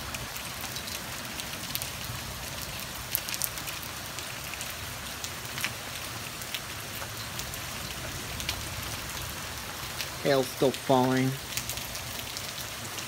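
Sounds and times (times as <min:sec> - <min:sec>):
hail and rain falling: 0:00.0 - 0:13.0
hailstones ticking on hard surfaces: 0:00.0 - 0:13.0.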